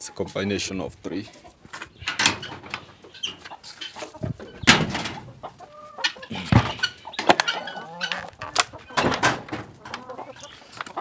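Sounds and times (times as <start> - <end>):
chickens clucking: 0.0 - 11.0
sharp knocks and scrapes: 1.4 - 11.0.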